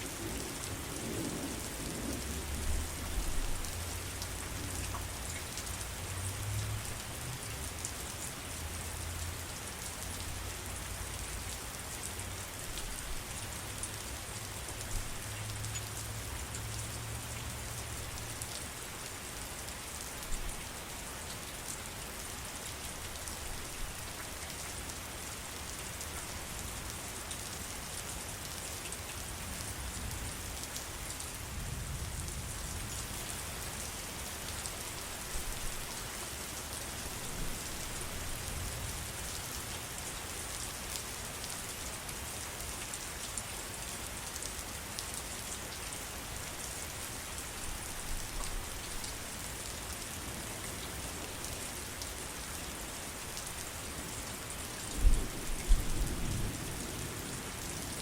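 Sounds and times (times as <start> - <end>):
heavy rain on surfaces: 0.0 - 58.0.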